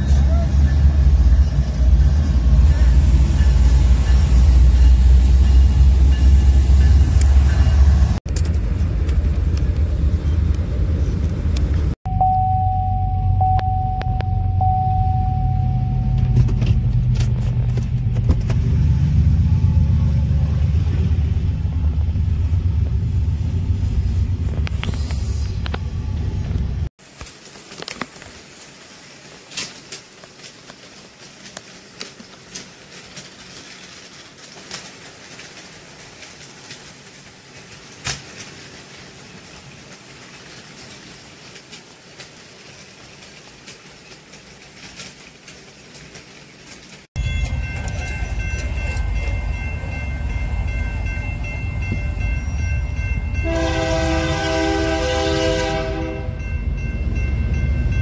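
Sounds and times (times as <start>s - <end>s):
diesel locomotives rumbling past: 0.0s - 26.9s, 29.2s - 58.0s.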